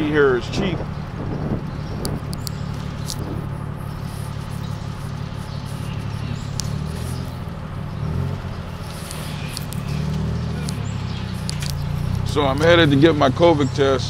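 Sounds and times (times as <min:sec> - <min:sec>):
tuk-tuk engine rumbling: 0:00.0 - 0:14.0.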